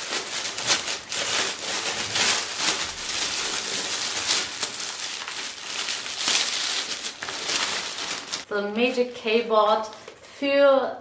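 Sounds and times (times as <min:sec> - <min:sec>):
plastic mailer bag crinkling: 0:00.0 - 0:10.1.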